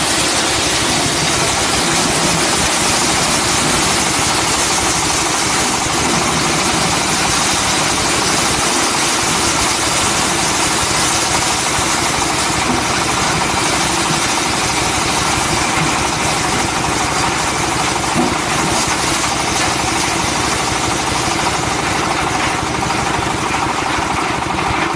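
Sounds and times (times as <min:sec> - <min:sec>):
corn husker mechanical noise: 0:00.0 - 0:24.9
tractor engine running: 0:00.0 - 0:24.9.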